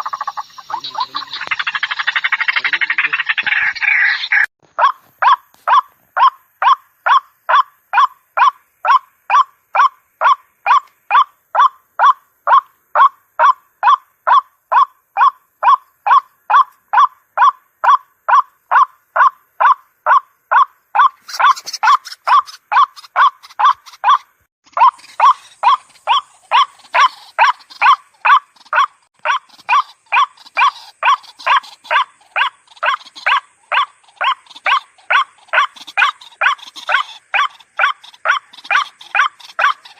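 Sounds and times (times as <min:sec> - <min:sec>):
waterhen call: 0:00.0 - 0:39.9.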